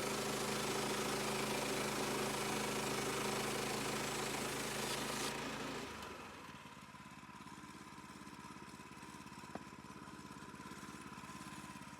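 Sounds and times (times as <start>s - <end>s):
small gasoline engine idling: 0.0s - 11.9s.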